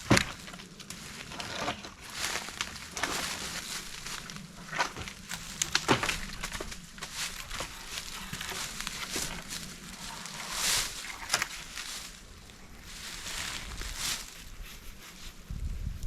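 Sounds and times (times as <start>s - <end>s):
brush rustling and snapping: 0.0s - 15.5s.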